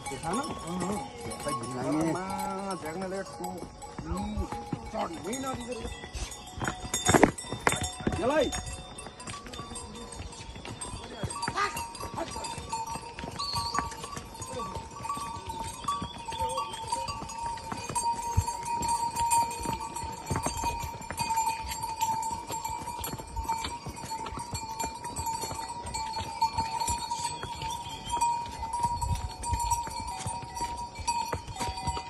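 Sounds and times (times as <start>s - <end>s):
harness bells ringing: 0.0s - 32.0s
hooves clip-clopping on stone: 0.0s - 32.0s.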